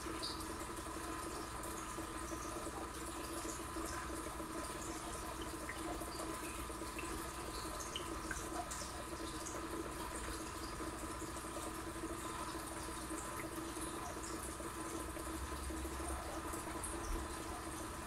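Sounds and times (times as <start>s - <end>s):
trickle of moving water: 0.0s - 18.0s.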